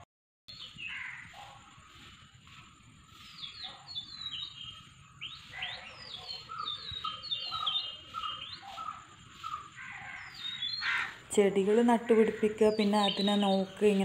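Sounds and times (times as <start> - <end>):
songbirds chirping: 0.5 - 14.0.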